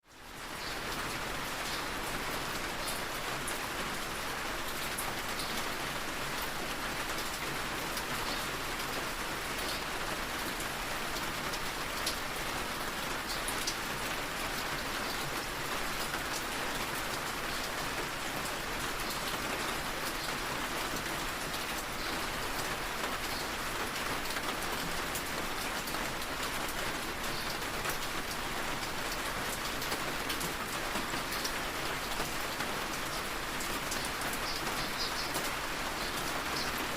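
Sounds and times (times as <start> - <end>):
rain on a window: 0.0 - 36.9.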